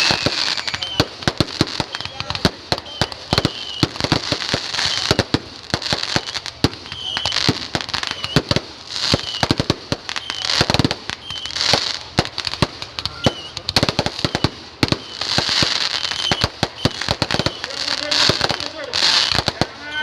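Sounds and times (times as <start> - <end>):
fireworks hissing: 0.0 - 20.0
fireworks popping and crackling: 0.0 - 20.0.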